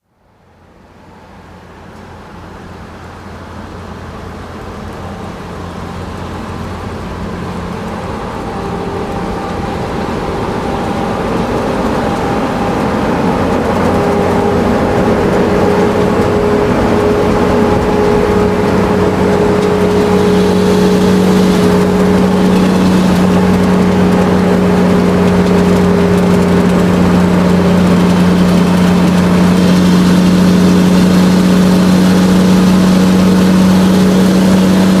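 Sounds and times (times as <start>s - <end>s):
road noise: 0.0s - 35.0s
truck engine driving: 0.3s - 35.0s.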